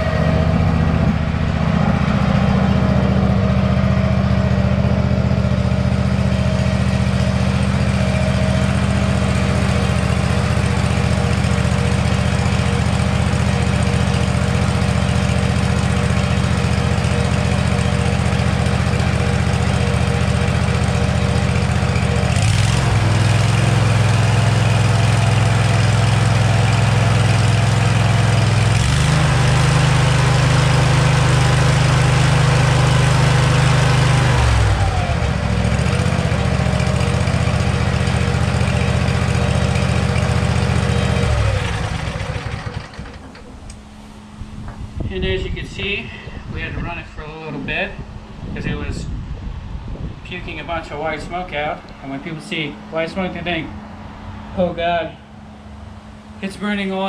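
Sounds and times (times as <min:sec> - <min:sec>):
riding mower engine running: 0:00.0 - 0:57.0.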